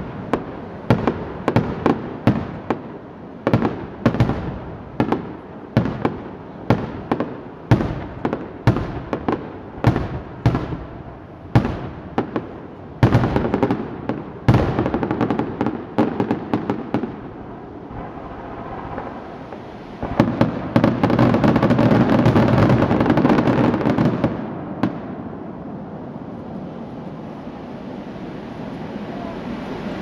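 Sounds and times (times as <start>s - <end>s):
fireworks bangs: 0.0s - 25.4s
crackling fireworks reports: 0.0s - 30.0s.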